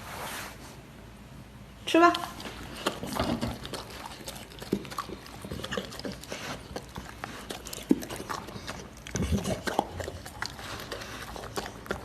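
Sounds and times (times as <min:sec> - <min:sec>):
dog chewing food: 0:02.2 - 0:12.0.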